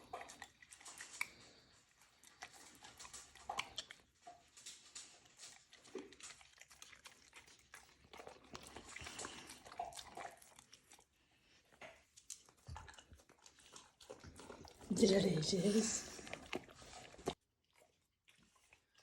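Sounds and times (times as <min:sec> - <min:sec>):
wet chewing and smacking: 0:00.0 - 0:19.0.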